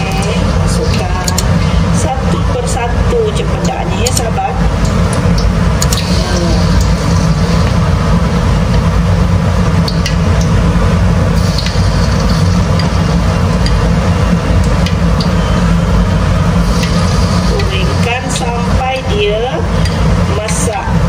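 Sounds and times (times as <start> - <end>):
loud low rumble: 0.0 - 21.0
frying in hot oil sizzle: 4.1 - 21.0.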